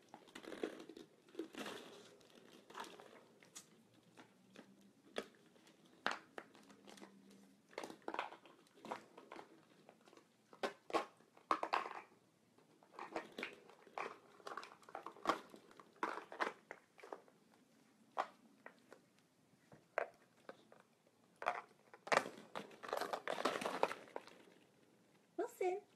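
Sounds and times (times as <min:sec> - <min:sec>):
plastic balls clacking: 0:00.0 - 0:17.3, 0:19.8 - 0:25.0.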